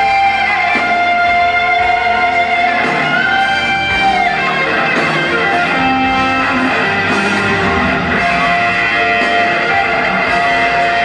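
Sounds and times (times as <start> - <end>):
electric guitar bending notes: 0.0 - 11.0
live rock music: 0.0 - 11.0.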